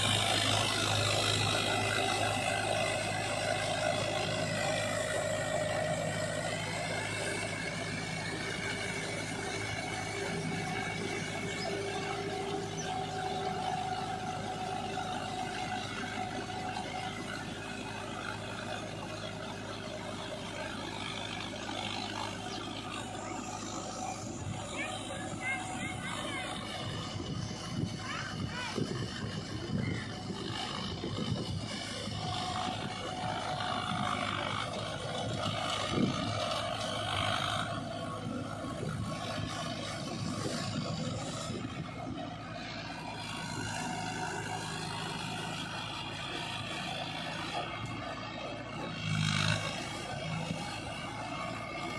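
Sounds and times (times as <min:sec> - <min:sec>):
rotary tiller churning mud: 0:00.0 - 0:51.9
tractor diesel engine running: 0:00.0 - 0:51.9.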